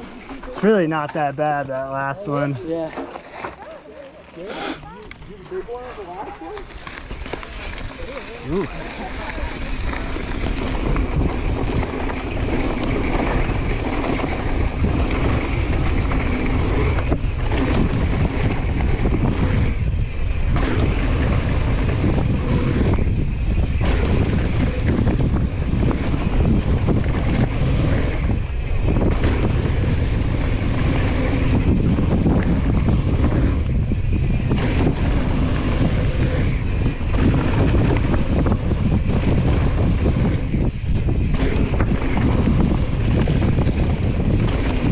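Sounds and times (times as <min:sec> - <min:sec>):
tyres rolling on dirt trail: 0:00.0 - 0:44.9
wind rushing over microphone: 0:06.7 - 0:44.9.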